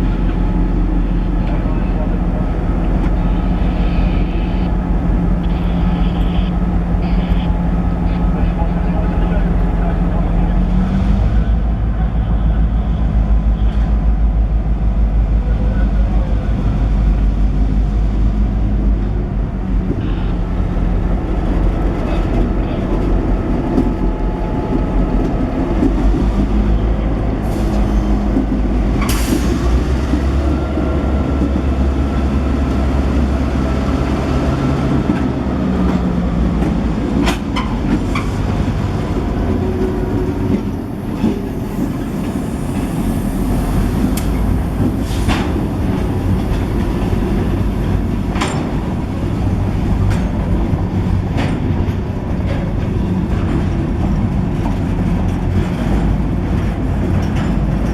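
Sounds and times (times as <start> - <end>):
diesel train engine rumble: 0.0 - 57.9.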